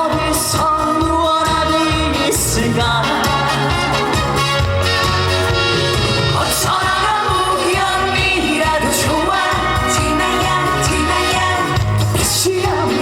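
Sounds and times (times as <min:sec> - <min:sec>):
man singing: 0:00.0 - 0:04.1, 0:06.2 - 0:13.0
amplified backing band: 0:00.0 - 0:13.0.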